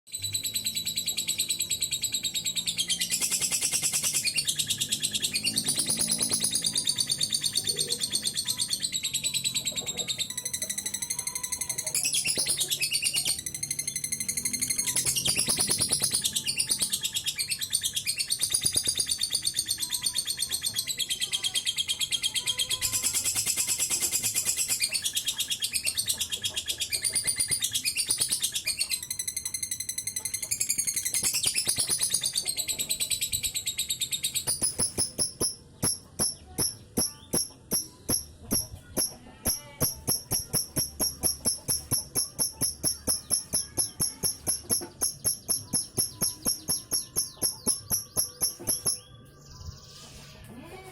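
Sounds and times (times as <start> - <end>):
rapid sharp bird chirps: 0.1 - 22.0, 22.7 - 49.2
lovebird chattering: 0.2 - 21.5, 22.7 - 49.0.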